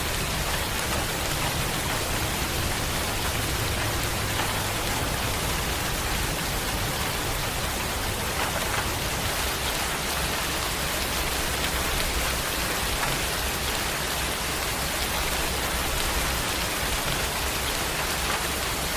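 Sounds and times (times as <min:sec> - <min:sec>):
rain pattering: 0:00.0 - 0:18.9.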